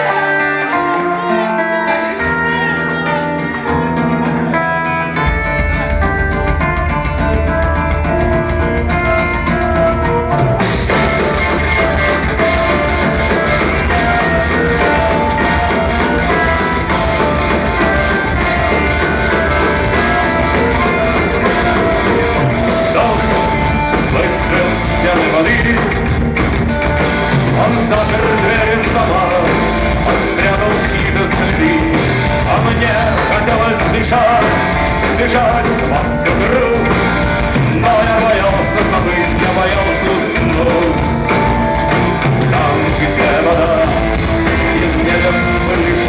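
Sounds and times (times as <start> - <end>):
live rock band playing: 0.0 - 46.0
drums beating: 2.0 - 46.0.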